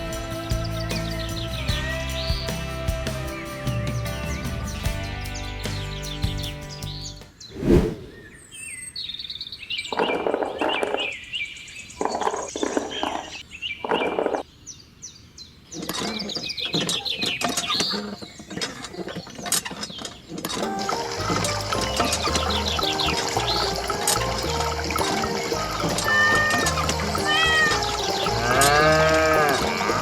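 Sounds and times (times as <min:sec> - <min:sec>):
birds chirping: 0:04.4 - 0:30.0.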